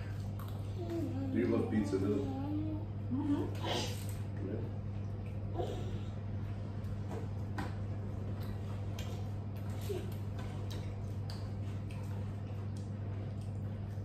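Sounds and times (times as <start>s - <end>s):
people chewing food: 0.0s - 1.4s, 3.9s - 14.0s
steady low hum: 0.0s - 14.0s.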